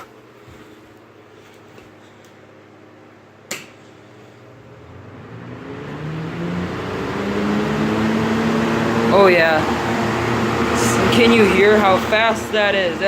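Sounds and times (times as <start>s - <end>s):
box fans spinning up: 0.0s - 13.0s.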